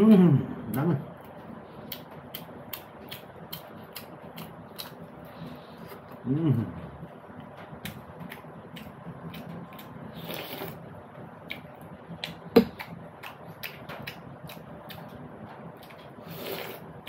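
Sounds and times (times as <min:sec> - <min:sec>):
person chewing food: 0:01.2 - 0:06.2, 0:07.4 - 0:17.0.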